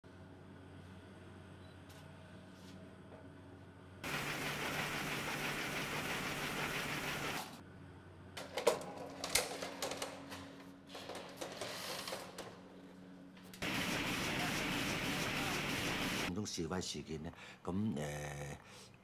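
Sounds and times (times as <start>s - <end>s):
lift machinery running with low hum: 0.1s - 16.3s.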